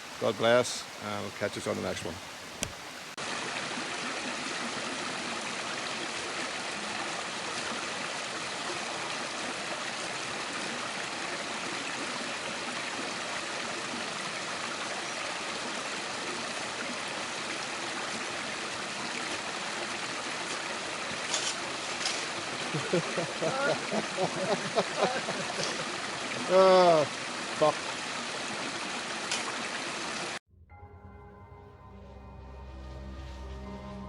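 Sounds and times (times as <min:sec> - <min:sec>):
river flowing: 0:00.0 - 0:30.4.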